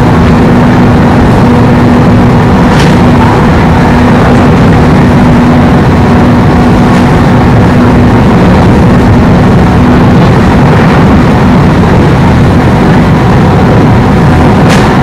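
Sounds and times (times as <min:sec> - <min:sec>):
electric train rolling noise: 0:00.0 - 0:15.0
low hum: 0:00.0 - 0:15.0.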